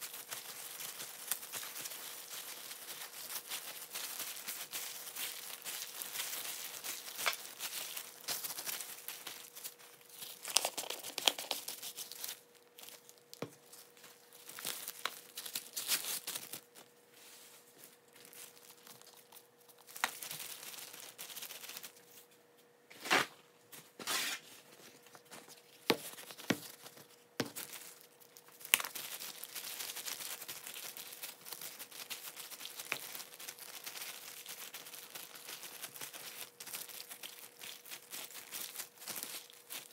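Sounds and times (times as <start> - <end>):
plastic gloves and paper crinkling: 0.0 - 22.4, 23.0 - 39.9
faint steady hum: 0.0 - 39.9.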